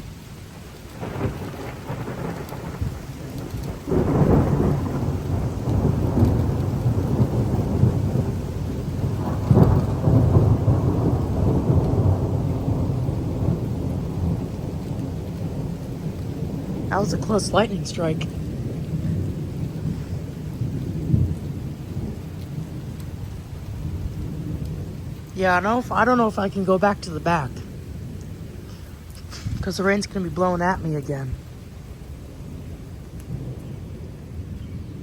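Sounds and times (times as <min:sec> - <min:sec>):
steady rain: 0:00.0 - 0:35.0
thunder rumbling: 0:00.0 - 0:35.0.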